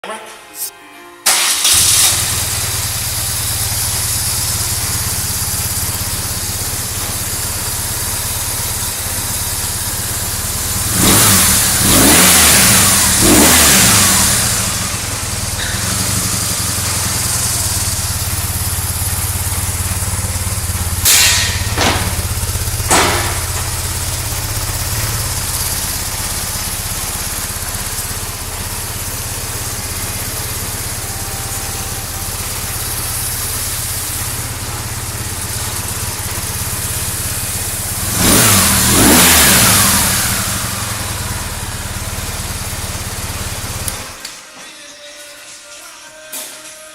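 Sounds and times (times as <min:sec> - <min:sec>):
motorcycle engine idling and revving: 0:01.4 - 0:44.3.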